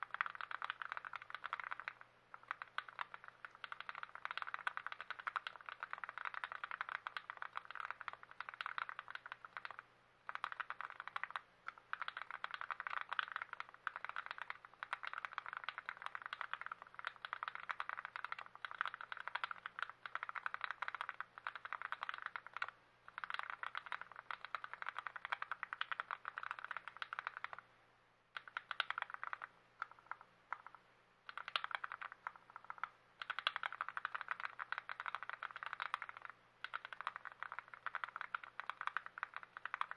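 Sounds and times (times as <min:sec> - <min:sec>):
mechanical keyboard typing: 0:00.0 - 0:27.6, 0:28.4 - 0:39.9.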